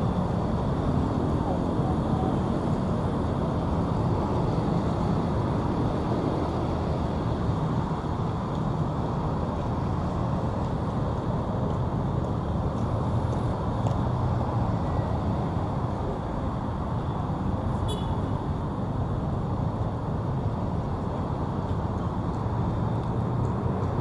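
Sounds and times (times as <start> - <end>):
busy road traffic: 0.0 - 24.0.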